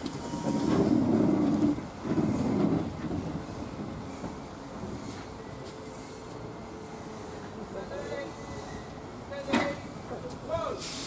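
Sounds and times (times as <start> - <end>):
train rumble and hiss: 0.0 - 11.0.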